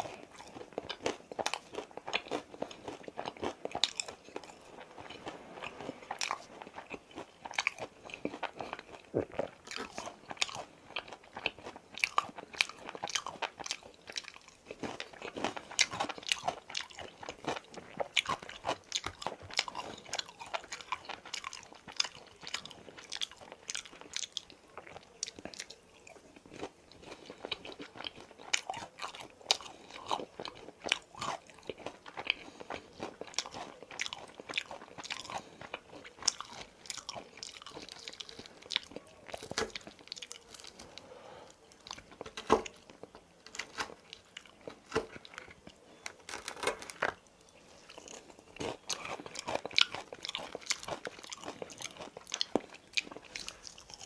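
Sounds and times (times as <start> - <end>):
chewing crispy fried chicken: 0.0 - 54.0.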